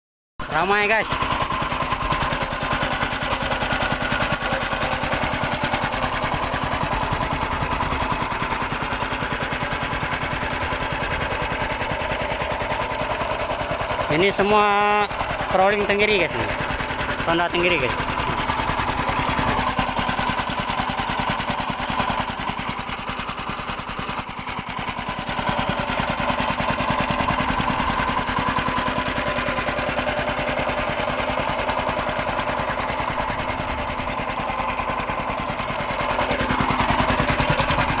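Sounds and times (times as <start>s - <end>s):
boat engine chugging: 0.4s - 38.0s.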